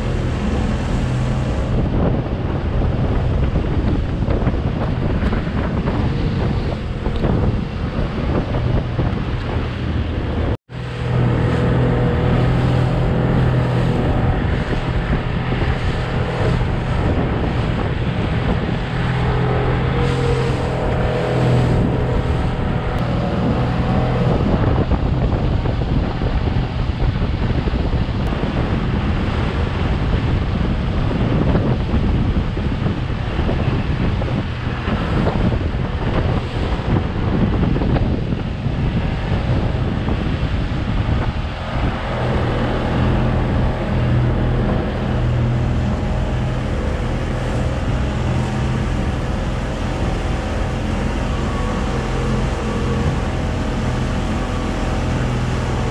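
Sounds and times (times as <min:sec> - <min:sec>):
motorboat engine hum: 0:00.0 - 0:55.9
water rushing past hull: 0:00.0 - 0:55.9
wind buffeting microphone: 0:00.0 - 0:55.9.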